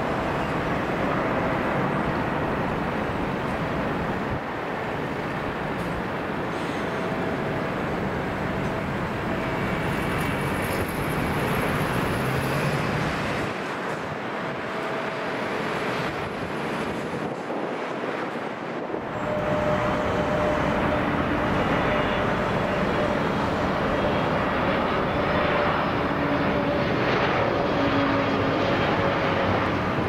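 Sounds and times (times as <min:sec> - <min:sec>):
airliner jet engine: 0:00.0 - 0:30.0.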